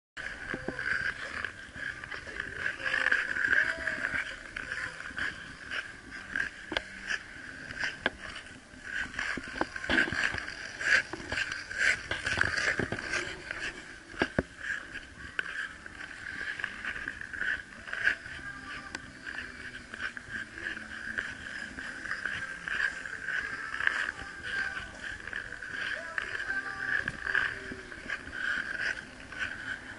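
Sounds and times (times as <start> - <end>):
skate blades gliding on ice: 0.2 - 29.9
skate blades scraping ice: 0.2 - 29.9.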